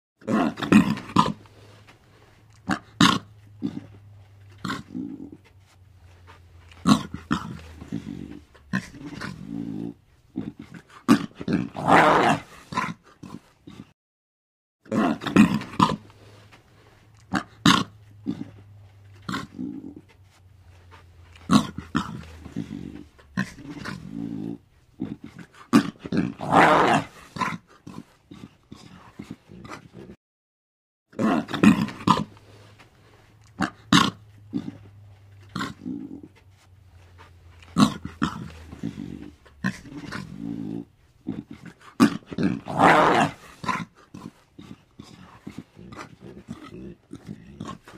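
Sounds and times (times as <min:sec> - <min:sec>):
lion growling and grunting: 0:00.2 - 0:01.8, 0:02.6 - 0:05.6, 0:06.7 - 0:13.9, 0:14.9 - 0:16.4, 0:17.2 - 0:20.2, 0:20.9 - 0:30.2, 0:31.1 - 0:32.7, 0:33.5 - 0:36.4, 0:37.1 - 0:47.9.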